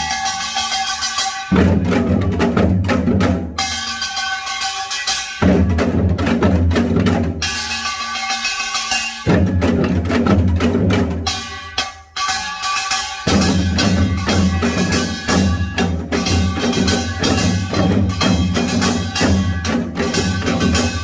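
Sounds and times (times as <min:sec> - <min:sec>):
fast percussion ensemble: 0:00.0 - 0:21.0.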